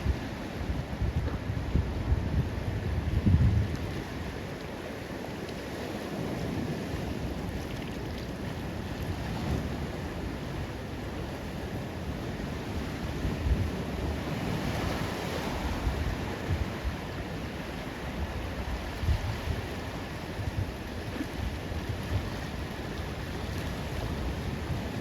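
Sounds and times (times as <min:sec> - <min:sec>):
ocean surf washing onto beach: 0:00.0 - 0:25.0
wind rumbling on microphone: 0:00.0 - 0:25.0.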